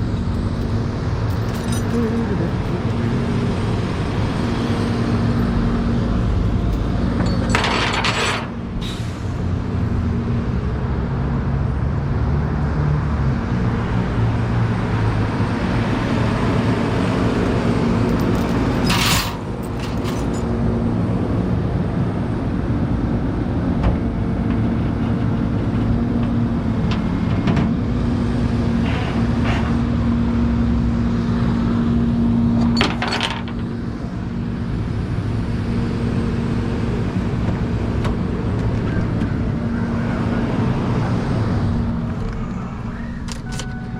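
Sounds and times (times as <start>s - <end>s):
road noise: 0.0s - 43.9s
vehicle engine hum: 0.0s - 43.9s.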